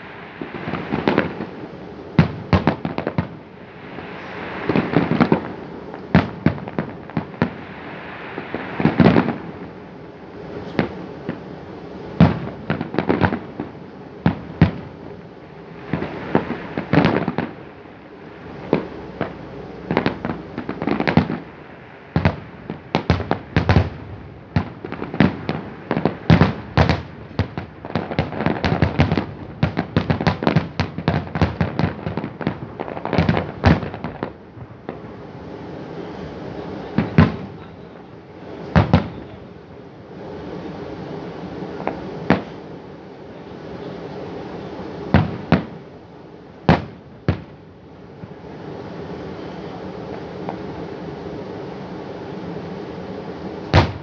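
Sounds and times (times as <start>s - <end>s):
fireworks bursting in bangs: 0.0s - 42.8s, 43.5s - 45.9s, 46.6s - 48.4s, 53.4s - 54.0s
crackling fireworks reports: 0.0s - 54.0s.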